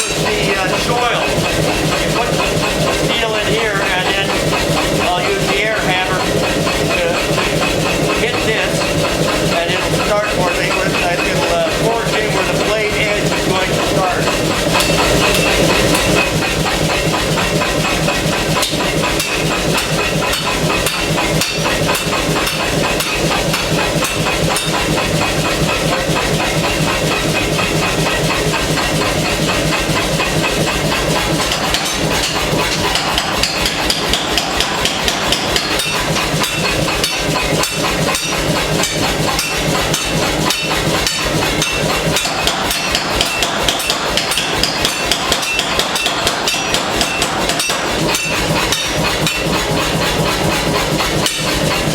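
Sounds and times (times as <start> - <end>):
air hammer pounding steel: 0.0 - 51.9.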